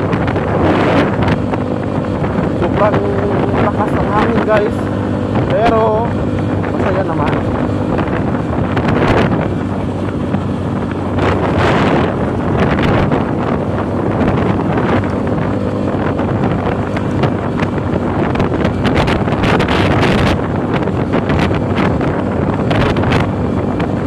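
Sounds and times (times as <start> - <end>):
vehicle engine humming: 0.0 - 24.0
wind buffeting microphone: 0.0 - 24.0.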